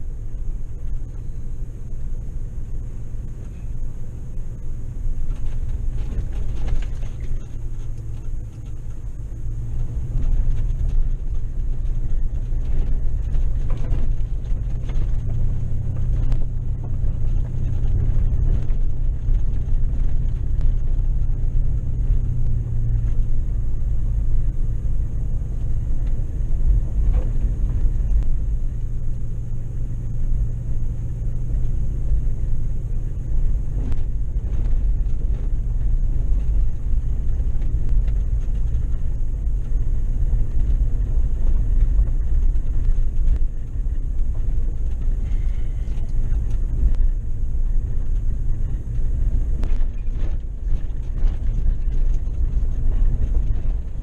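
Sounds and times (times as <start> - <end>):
engine and tyres rumbling: 0.0 - 54.0.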